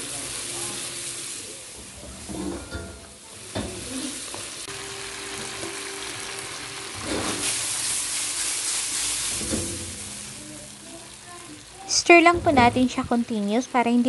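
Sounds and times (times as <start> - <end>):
shrimp sizzling in a wok: 0.0 - 14.0.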